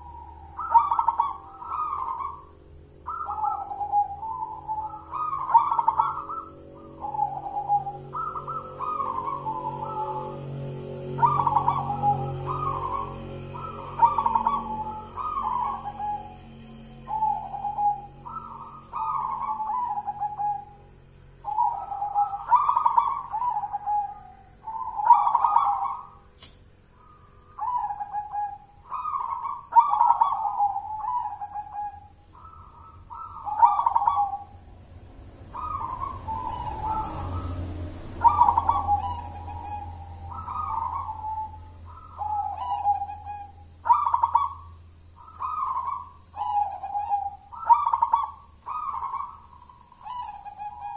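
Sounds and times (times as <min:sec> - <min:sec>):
dove cooing: 0:00.0 - 0:26.3, 0:26.9 - 0:50.9.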